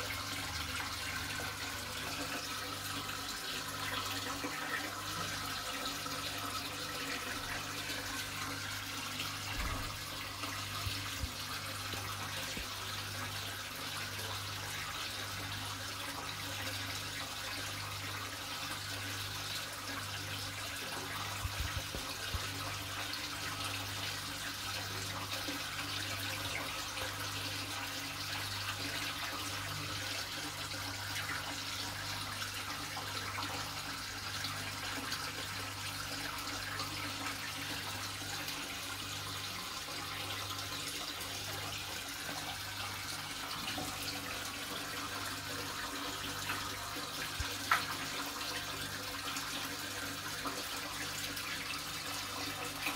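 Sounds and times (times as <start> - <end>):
water splashing and trickling: 0.0 - 52.9.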